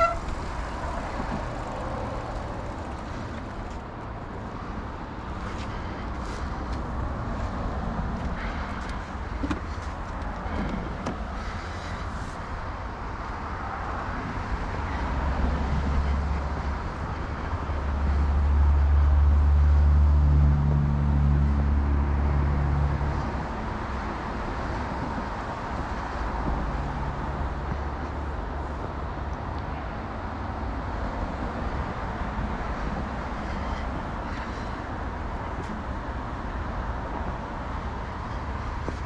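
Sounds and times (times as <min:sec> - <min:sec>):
vehicle engine hum: 0:00.0 - 0:39.0.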